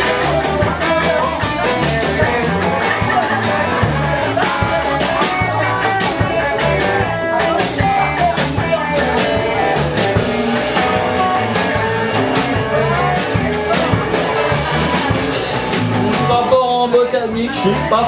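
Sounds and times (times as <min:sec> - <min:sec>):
guitar lead line: 0:00.0 - 0:18.0
rock band playing: 0:00.0 - 0:18.0.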